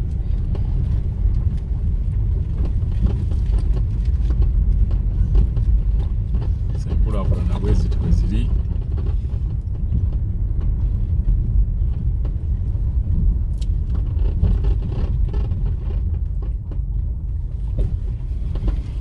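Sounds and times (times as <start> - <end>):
motor vehicle rumbling: 0.0 - 19.0.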